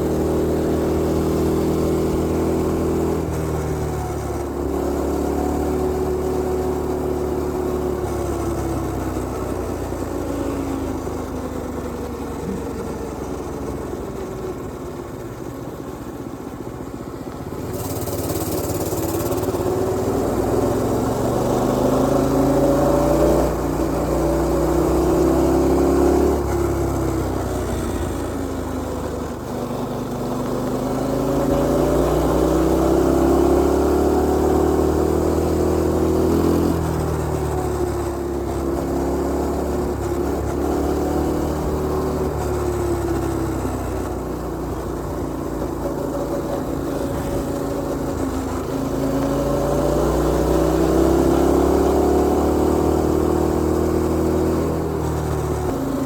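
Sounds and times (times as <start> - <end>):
mini bike engine revving: 0.0 - 15.4, 16.8 - 56.0.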